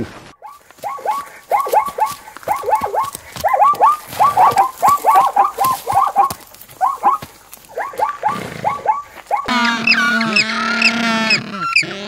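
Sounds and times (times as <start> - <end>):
zebras yelping: 0.4 - 12.0.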